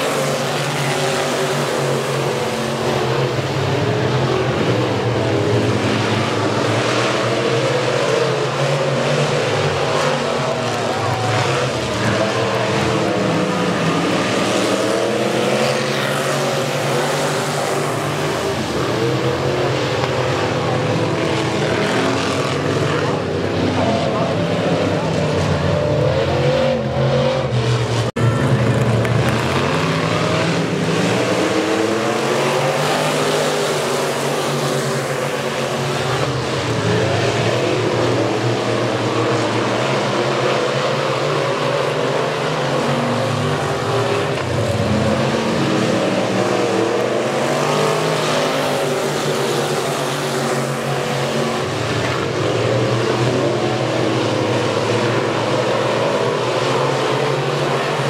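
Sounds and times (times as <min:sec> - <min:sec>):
race car engines revving: 0:00.0 - 0:58.0.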